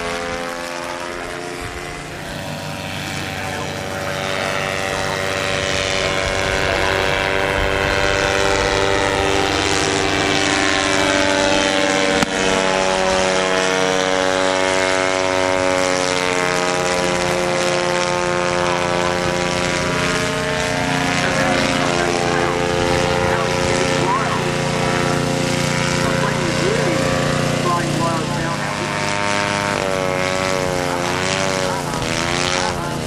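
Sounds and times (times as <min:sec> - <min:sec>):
small engine and propeller droning: 0:00.0 - 0:33.0.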